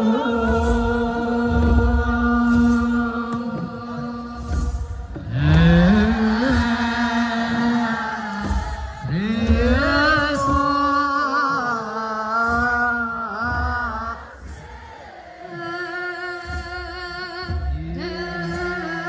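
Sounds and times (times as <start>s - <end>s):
choir chanting held notes: 0.0s - 19.0s
deep drum beats: 0.0s - 19.0s.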